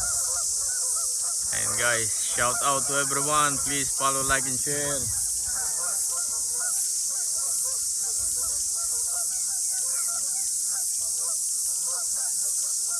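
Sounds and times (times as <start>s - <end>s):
steady high hiss: 0.0s - 12.9s
waterfowl honking: 0.0s - 12.9s.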